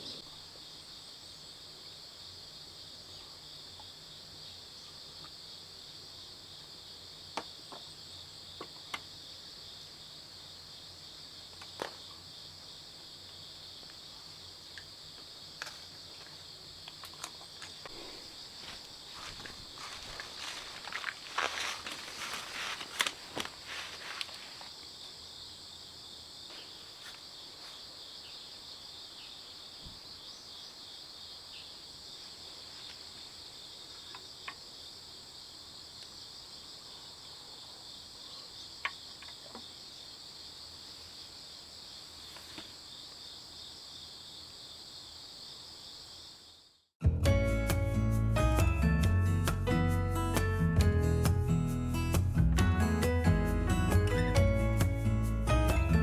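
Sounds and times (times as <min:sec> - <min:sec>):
crickets and insects chirping: 0:00.0 - 0:46.9.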